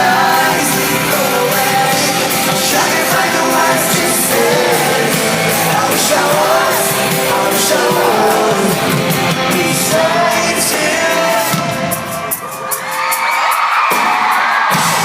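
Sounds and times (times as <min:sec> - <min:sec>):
person singing: 0:00.0 - 0:12.4
pop-rock band playing: 0:00.0 - 0:15.0.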